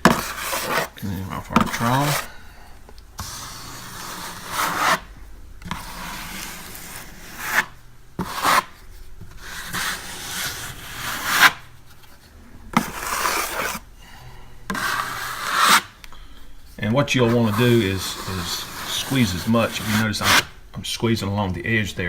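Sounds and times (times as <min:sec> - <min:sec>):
putty knife scraping compound: 0:00.0 - 0:02.4, 0:03.2 - 0:13.8, 0:14.7 - 0:16.0, 0:16.8 - 0:20.6.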